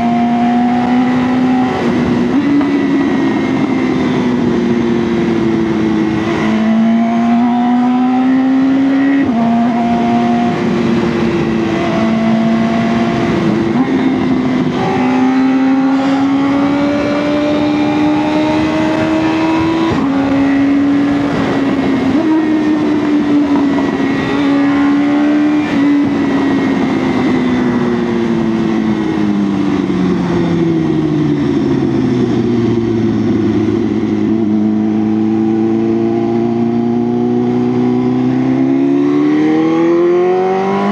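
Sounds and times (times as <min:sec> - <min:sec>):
motorcycle engine running: 0:00.0 - 0:39.9
wind rush: 0:00.0 - 0:40.9.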